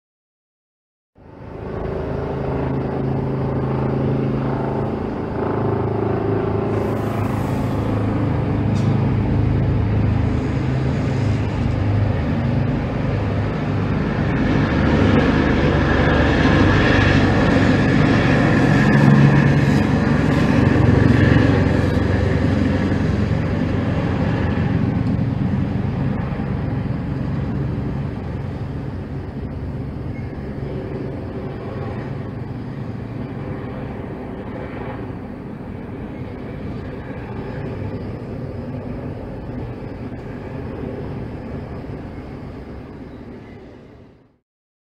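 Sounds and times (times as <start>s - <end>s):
helicopter flying overhead: 1.2s - 44.4s.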